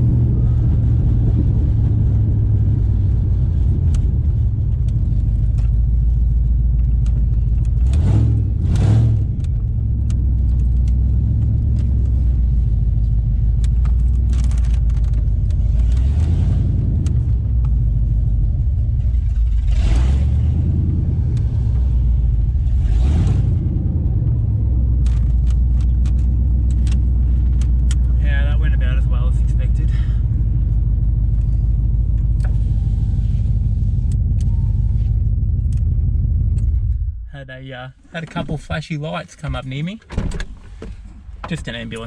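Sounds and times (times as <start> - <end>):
deep engine rumble: 0.0 - 42.0.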